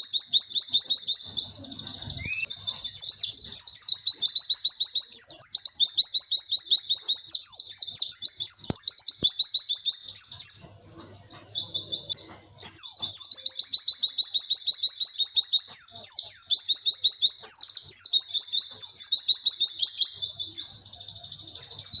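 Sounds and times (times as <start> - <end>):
white-eye bird singing: 0.0 - 22.0.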